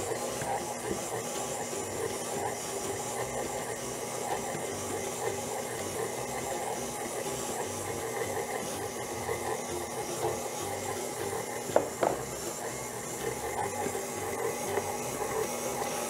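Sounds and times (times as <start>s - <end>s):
stand mixer beating dough: 0.0s - 16.0s.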